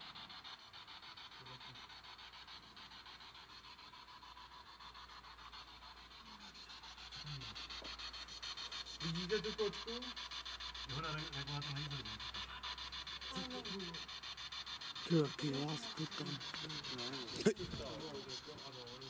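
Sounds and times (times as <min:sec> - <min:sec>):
fluttering static hiss: 0:00.0 - 0:19.0.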